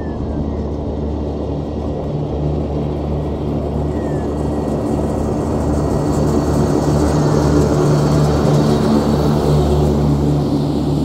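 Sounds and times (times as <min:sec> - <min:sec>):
ride-on mower engine running: 0:00.0 - 0:11.0.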